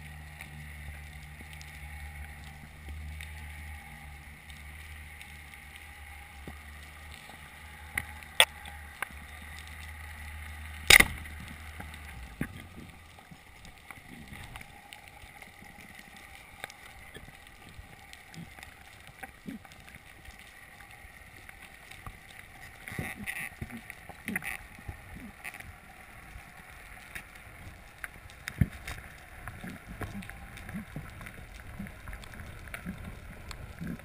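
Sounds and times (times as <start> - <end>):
faint crackling: 0.0 - 34.0
low underwater hum: 0.0 - 34.0.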